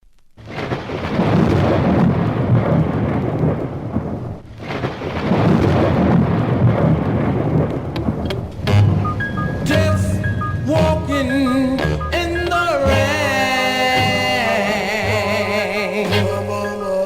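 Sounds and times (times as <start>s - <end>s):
rain falling: 0.0s - 14.7s
thunder rolling: 0.5s - 14.6s.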